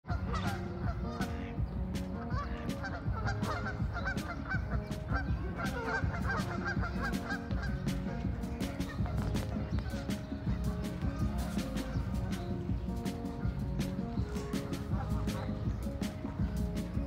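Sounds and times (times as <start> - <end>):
geese honking: 0.1 - 17.0.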